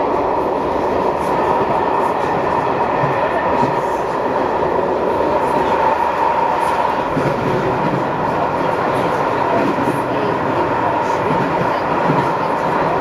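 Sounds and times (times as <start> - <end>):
train wheels on rail: 0.0 - 13.0.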